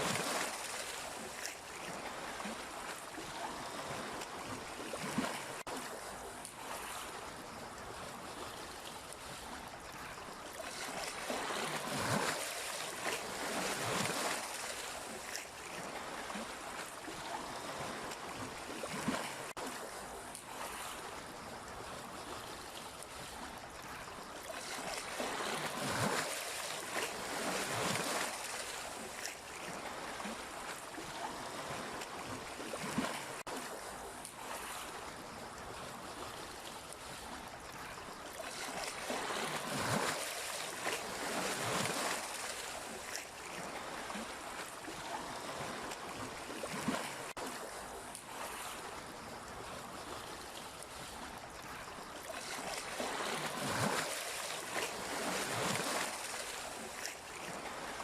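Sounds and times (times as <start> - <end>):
sea waves washing in: 0.0 - 58.0.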